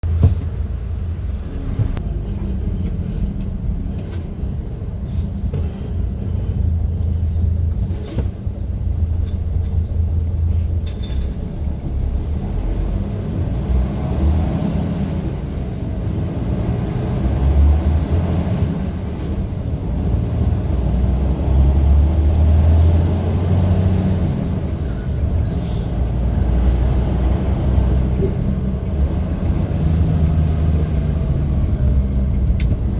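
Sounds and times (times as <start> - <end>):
low rumble of moving vehicle: 0.0 - 32.9.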